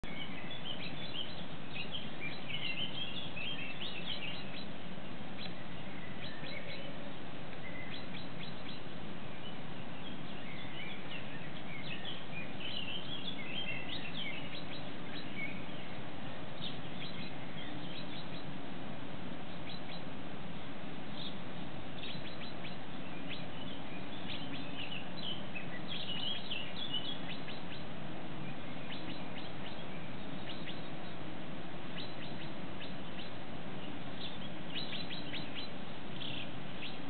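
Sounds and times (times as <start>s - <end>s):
small birds chirping: 0.0s - 37.0s
steady hiss: 0.0s - 37.0s.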